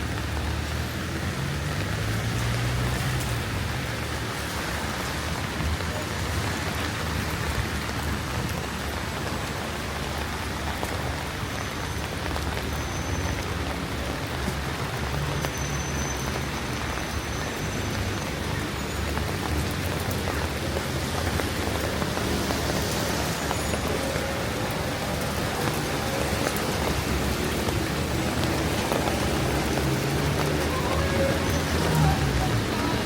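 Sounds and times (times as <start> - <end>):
rain pattering: 0.0 - 33.0.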